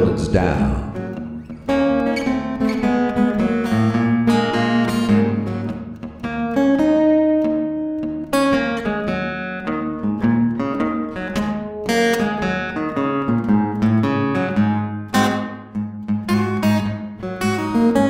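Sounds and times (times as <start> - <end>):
acoustic blues guitar: 0.0 - 18.0.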